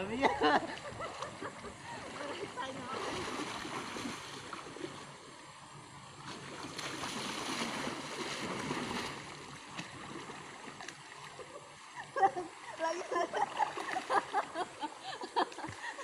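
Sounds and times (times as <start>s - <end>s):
person wading through river water: 0.4s - 16.0s.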